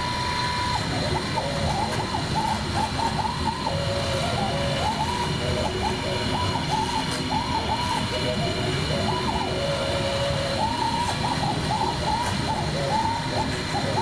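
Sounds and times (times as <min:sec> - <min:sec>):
spindle high whine: 0:00.0 - 0:14.0
stepper motors whining: 0:00.0 - 0:14.0.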